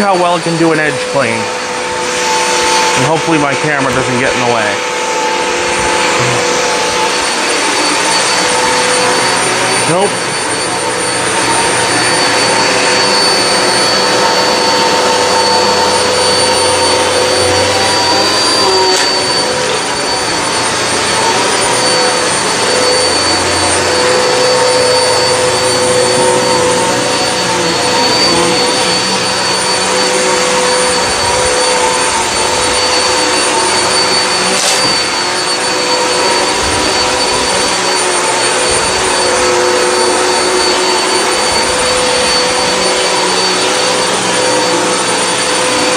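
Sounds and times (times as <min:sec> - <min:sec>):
vacuum cleaner running on carpet: 0:00.0 - 0:45.9.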